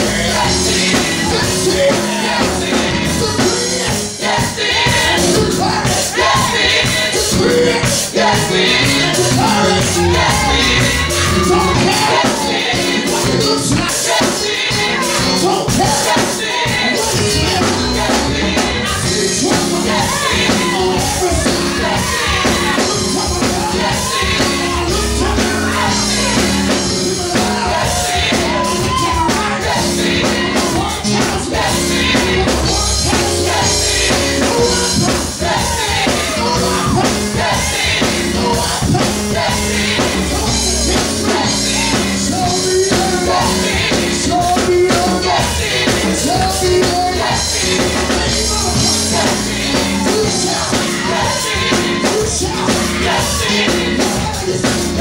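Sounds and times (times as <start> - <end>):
group singing: 0.0 - 55.0
instrumental backing: 0.0 - 55.0.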